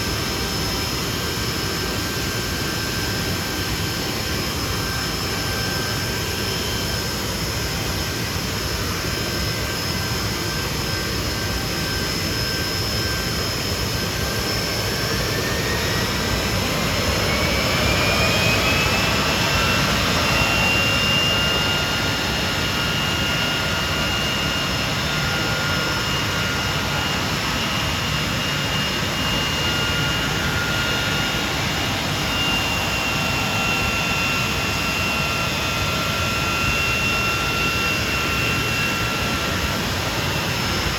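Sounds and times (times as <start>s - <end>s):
engine whine rising in pitch: 0.0s - 40.9s
jet engines roaring: 0.0s - 40.9s.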